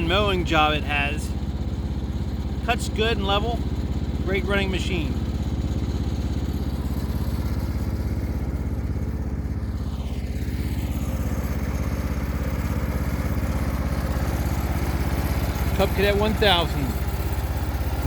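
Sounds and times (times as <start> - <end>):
garden tractor engine running: 0.0 - 18.0.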